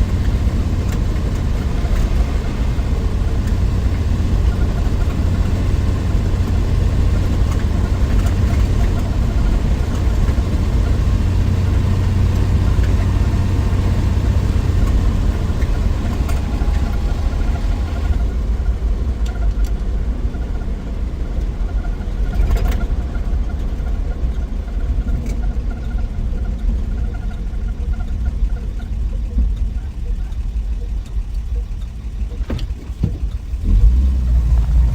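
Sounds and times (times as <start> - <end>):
car engine rumbling: 0.0 - 34.9
road noise: 0.0 - 34.9.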